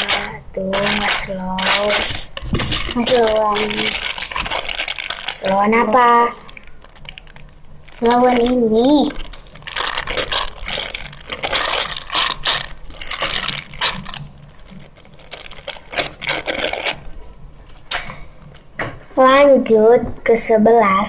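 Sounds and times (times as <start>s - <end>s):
squishies crinkling and crackling: 0.0s - 18.8s.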